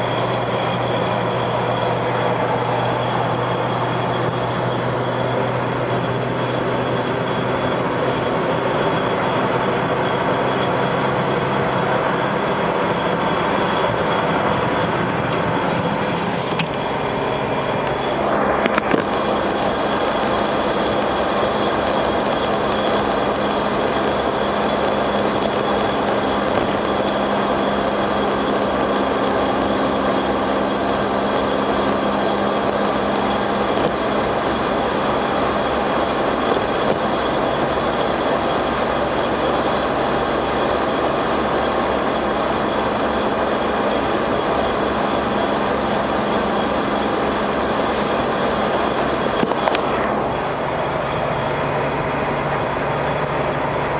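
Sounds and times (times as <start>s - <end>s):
high-pitched whine: 0.0s - 53.9s
low hum: 0.0s - 53.9s
vehicle engine drone: 0.0s - 53.9s.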